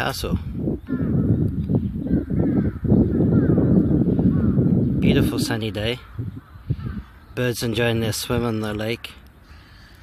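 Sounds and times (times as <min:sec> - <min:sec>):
wind rumbling on microphone: 0:00.0 - 0:10.0
faint bird calls: 0:00.7 - 0:10.0.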